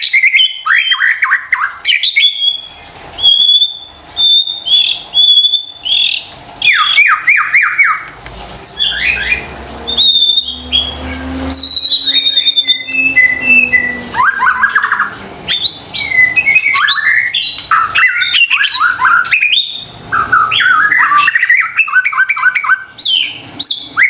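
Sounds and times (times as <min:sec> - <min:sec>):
bird singing: 0:00.0 - 0:24.0.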